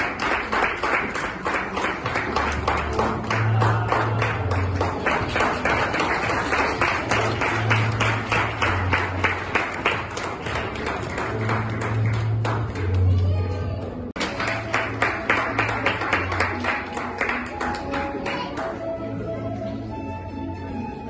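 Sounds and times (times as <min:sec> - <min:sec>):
audience clapping in rhythm: 0:00.0 - 0:19.0.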